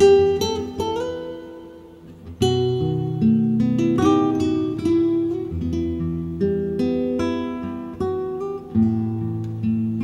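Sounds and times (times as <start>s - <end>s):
acoustic guitar playing: 0.0s - 10.0s.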